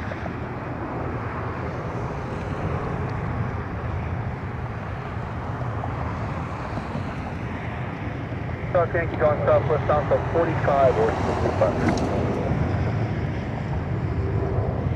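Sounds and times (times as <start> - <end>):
jet engines rumbling: 0.0 - 14.9.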